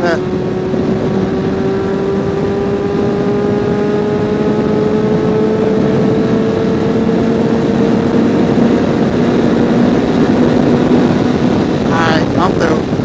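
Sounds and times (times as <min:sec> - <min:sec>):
heavy wind rush: 0:00.0 - 0:13.0.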